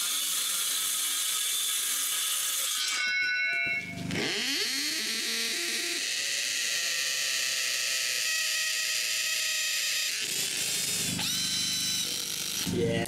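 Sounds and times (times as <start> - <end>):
power tool motor whining: 0.0 - 13.0.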